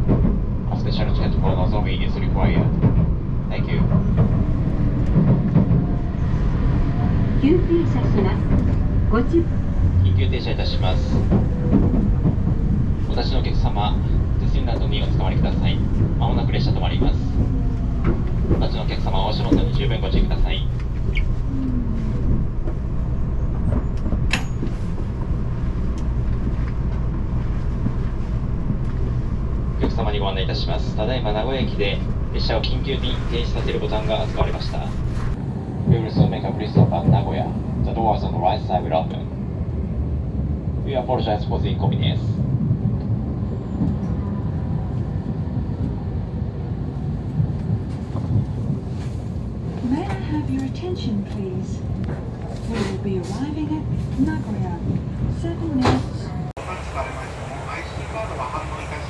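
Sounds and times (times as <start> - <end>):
train rumble while braking: 0.0 - 59.0.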